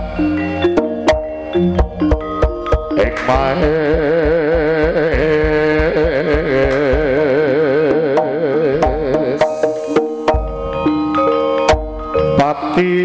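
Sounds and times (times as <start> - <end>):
lead melody with vibrato: 0.0 - 13.0
struck metal gamelan notes: 0.0 - 13.0.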